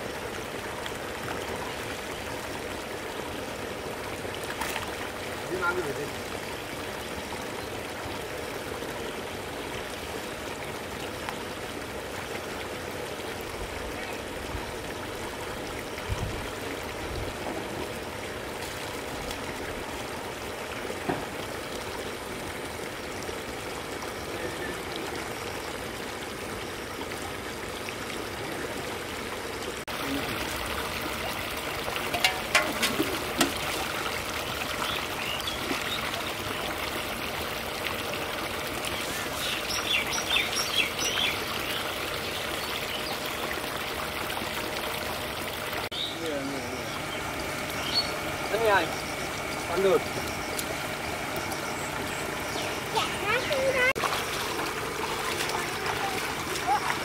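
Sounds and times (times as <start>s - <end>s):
water trickling into a stream: 0.0s - 57.0s.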